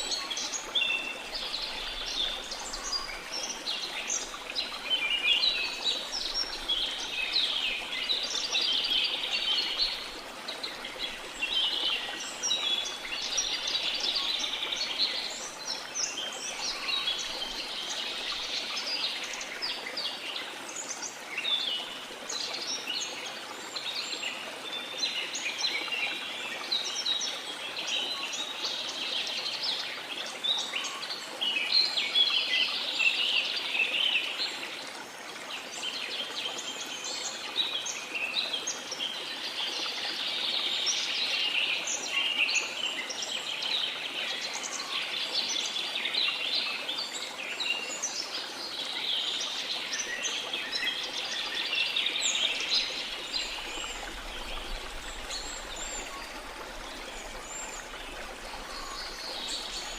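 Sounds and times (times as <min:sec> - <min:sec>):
rush of falling water: 0:00.0 - 0:59.9.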